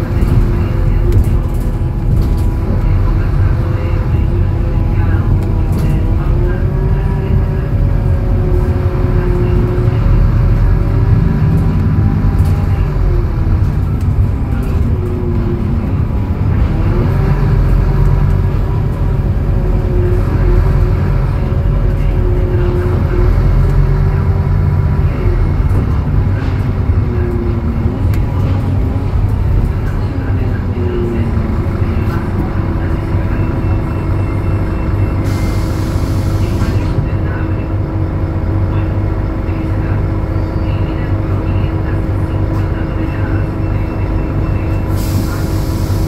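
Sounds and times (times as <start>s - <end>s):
bus diesel engine running: 0.0s - 46.0s.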